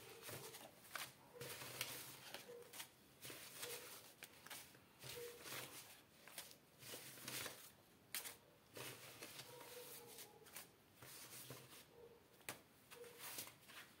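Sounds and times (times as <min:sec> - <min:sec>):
banknotes rustling: 0:00.0 - 0:14.0.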